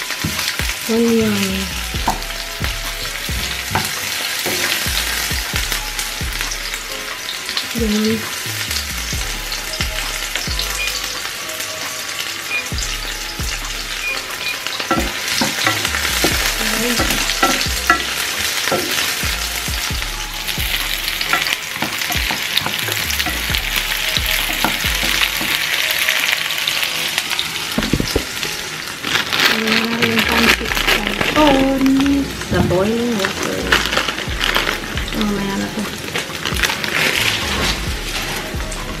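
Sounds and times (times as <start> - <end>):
onion and garlic sizzling in oil: 0.0 - 39.0.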